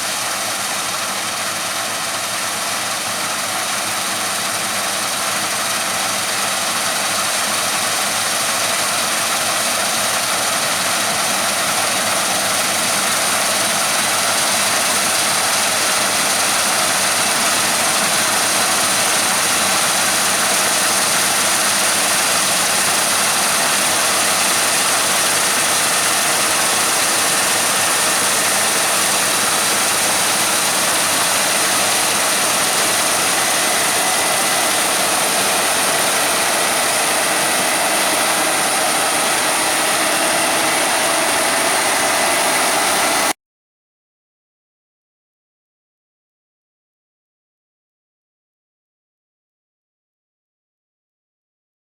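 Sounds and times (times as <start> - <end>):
heavy farm machinery running: 0.0 - 43.4.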